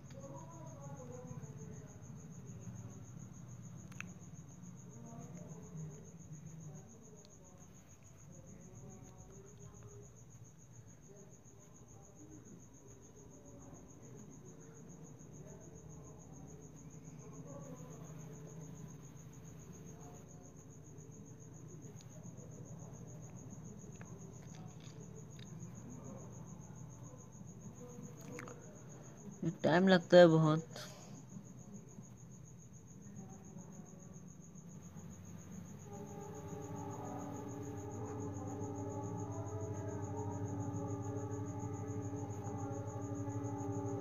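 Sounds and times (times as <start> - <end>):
high-pitched insect trill: 0.0 - 44.0.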